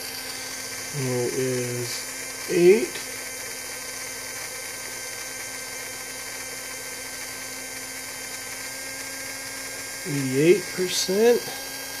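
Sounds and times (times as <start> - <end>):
small electric fan humming: 0.0 - 12.0.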